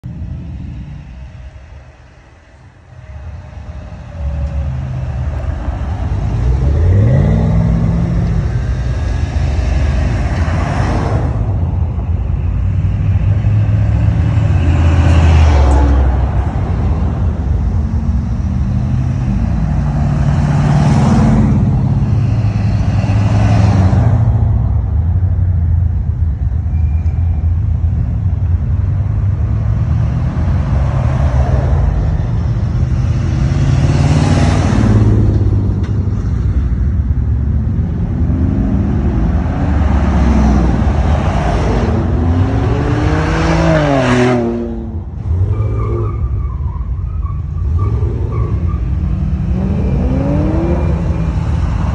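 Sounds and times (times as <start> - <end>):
cars accelerating past: 0.1 - 25.5, 26.6 - 51.9.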